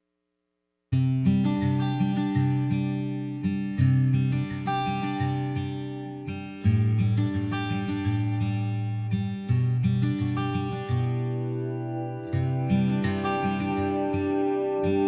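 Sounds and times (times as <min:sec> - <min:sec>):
acoustic guitar strumming: 0:01.0 - 0:15.0.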